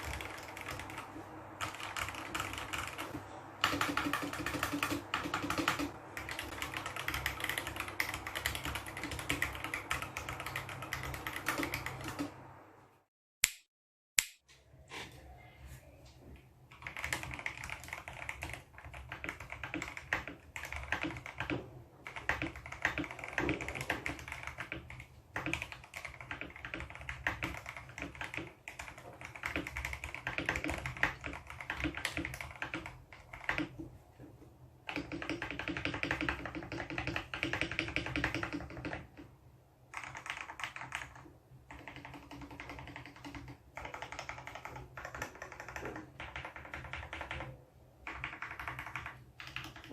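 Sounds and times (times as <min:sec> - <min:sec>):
mechanical keyboard typing: 0:00.0 - 0:12.5, 0:16.7 - 0:33.8, 0:34.8 - 0:39.3, 0:39.9 - 0:49.9.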